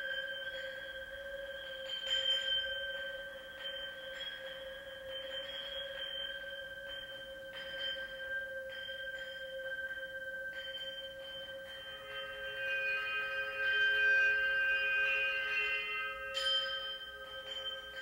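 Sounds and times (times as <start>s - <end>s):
metal instrument bell-like ringing: 0.0s - 18.0s.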